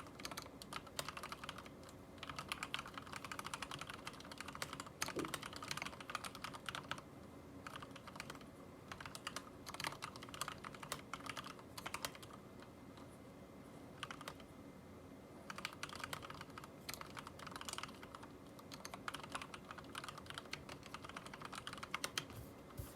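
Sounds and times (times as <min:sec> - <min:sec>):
mechanical keyboard typing: 0:00.0 - 0:12.7, 0:14.0 - 0:14.4, 0:15.4 - 0:22.4.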